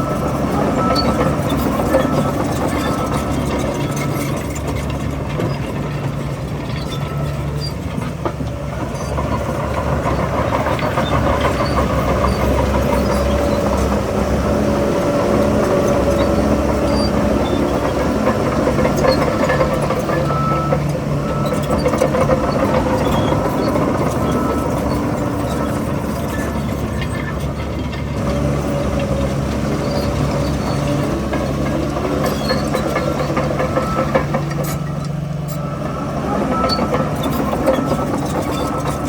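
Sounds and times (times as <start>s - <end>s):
diesel machinery engine running: 0.0s - 39.0s.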